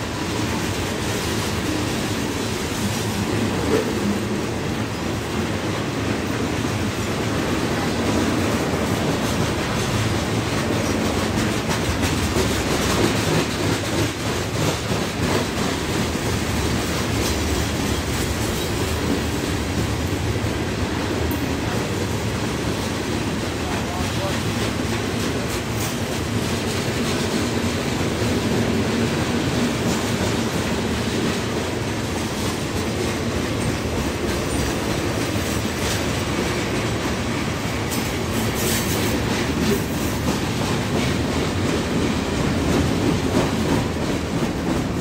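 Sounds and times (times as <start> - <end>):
train wheels rumbling on rail: 0.0 - 45.0
wheels clacking over rail joints: 5.6 - 22.1, 23.5 - 45.0.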